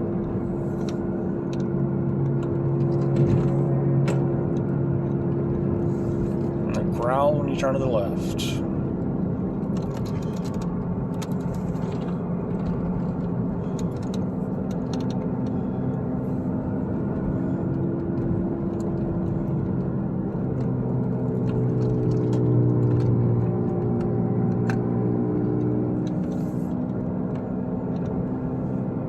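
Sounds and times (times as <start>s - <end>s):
car cabin road noise: 0.0s - 29.0s.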